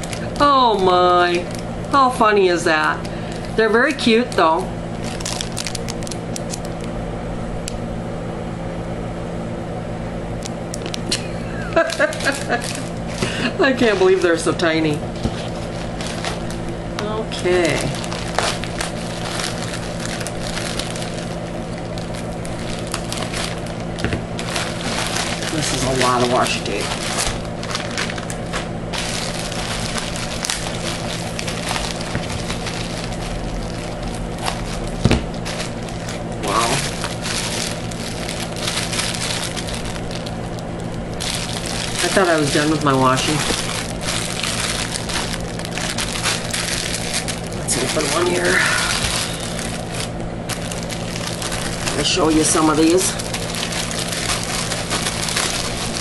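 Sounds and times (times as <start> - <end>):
plastic bag crinkling and clicking: 0.0 - 2.0, 2.7 - 7.0, 10.4 - 14.3, 15.1 - 56.0
steady low hum: 0.0 - 56.0.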